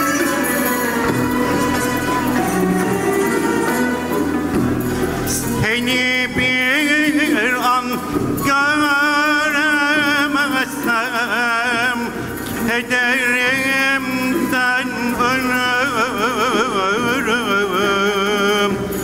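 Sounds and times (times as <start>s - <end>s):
man singing with vibrato: 0.0s - 4.5s, 5.3s - 19.0s
instrumental ensemble accompaniment: 0.0s - 19.0s.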